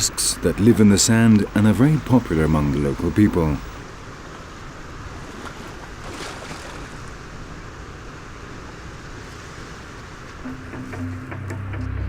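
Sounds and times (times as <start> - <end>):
small waves washing onto beach: 0.0 - 10.8.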